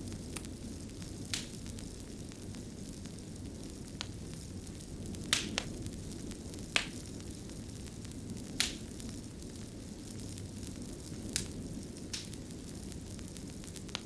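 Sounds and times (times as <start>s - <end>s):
burning wood crackles and pops: 0.0s - 14.0s
wood fire rumbling: 0.0s - 14.0s.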